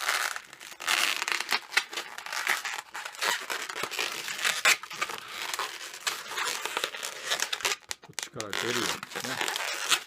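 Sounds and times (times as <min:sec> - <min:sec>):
balloon rubbing and crinkling: 0:00.0 - 0:10.0.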